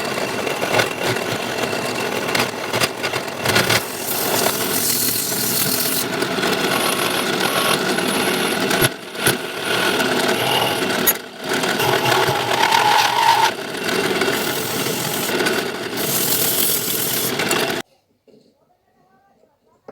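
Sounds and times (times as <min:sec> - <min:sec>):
electric drill motor running: 0:00.0 - 0:17.8
tool scraping spinning wood: 0:00.0 - 0:17.8.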